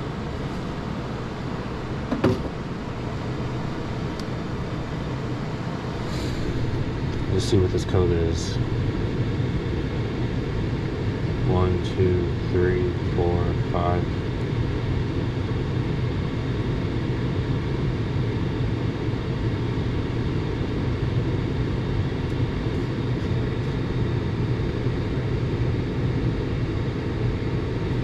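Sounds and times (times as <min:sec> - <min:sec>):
furnace fan motor humming: 0:00.0 - 0:28.0.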